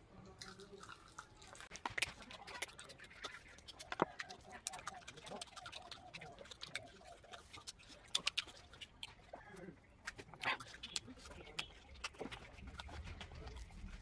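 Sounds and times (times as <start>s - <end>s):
person chewing: 0.2s - 14.0s
wet lip-smacking clicks: 1.7s - 9.2s, 10.0s - 14.0s.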